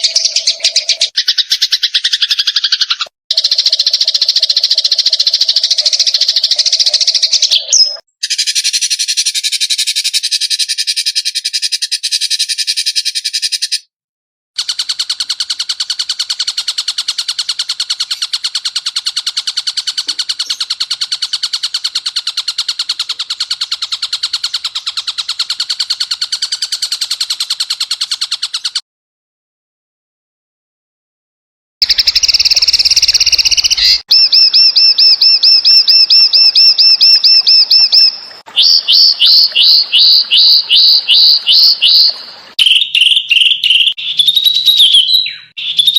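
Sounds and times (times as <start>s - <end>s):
buzzy bird trills: 0.0s - 13.9s, 14.6s - 28.8s, 31.8s - 45.9s.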